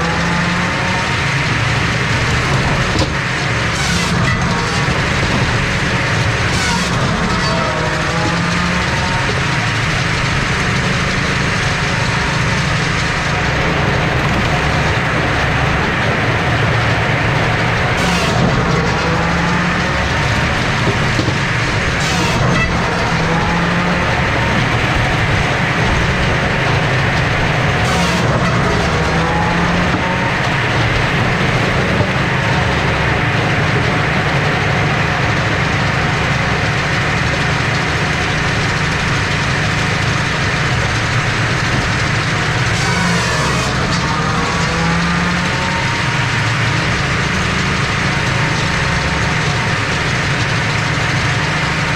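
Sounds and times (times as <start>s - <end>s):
firewood processor running: 0.0s - 51.9s.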